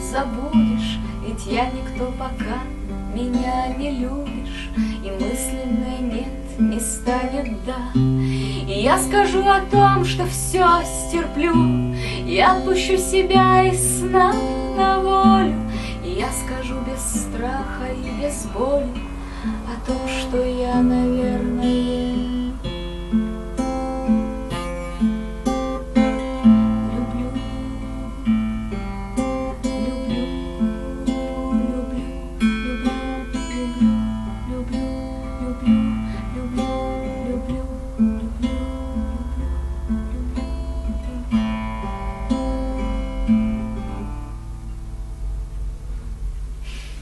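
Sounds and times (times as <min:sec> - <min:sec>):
acoustic guitar picking and strumming: 0:00.0 - 0:47.0.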